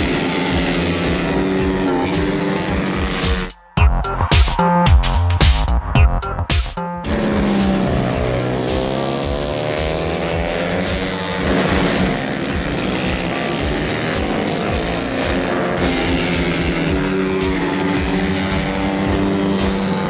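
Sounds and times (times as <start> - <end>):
race motorcycles passing at high revs: 0.0 - 3.6, 7.0 - 20.0
background music with steady beat: 0.0 - 20.0.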